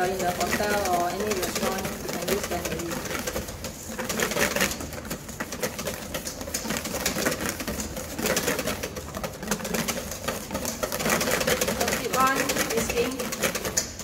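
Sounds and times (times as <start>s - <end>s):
whisk clicking against metal bowl: 0.0s - 14.0s.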